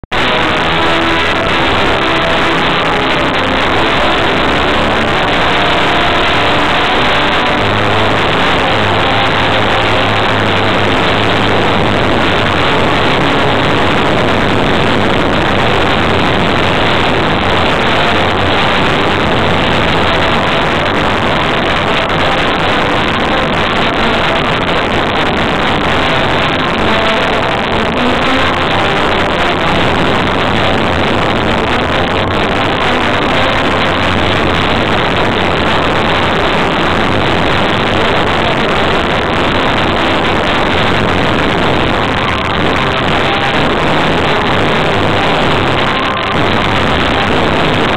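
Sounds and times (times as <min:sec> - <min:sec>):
distorted loudspeaker roar: 0:00.0 - 0:47.9.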